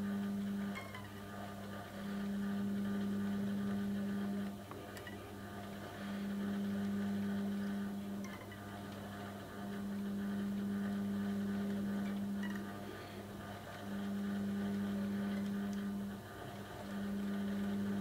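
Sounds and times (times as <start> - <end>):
electric motor humming: 1.4 - 18.0.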